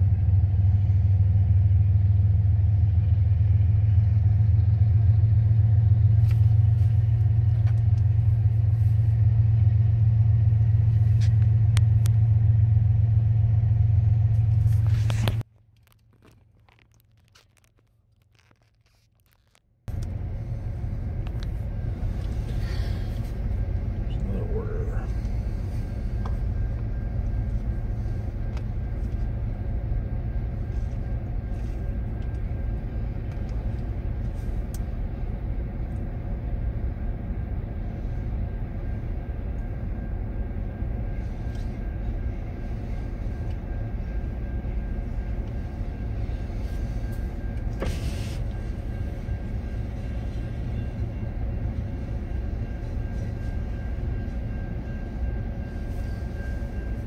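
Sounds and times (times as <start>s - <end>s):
freight train rumbling: 0.0s - 15.5s, 19.9s - 57.0s.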